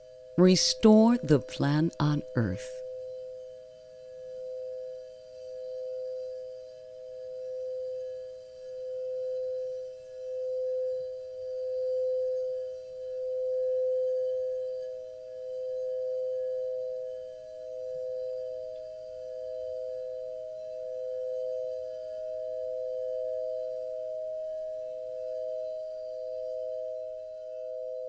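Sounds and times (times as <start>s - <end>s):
ringing meditation tone: 4.3s - 28.0s.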